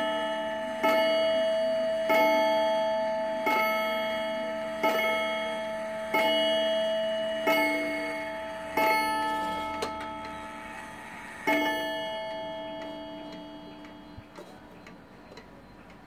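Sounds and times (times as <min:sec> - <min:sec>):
wall clock striking gong: 0:00.0 - 0:15.2.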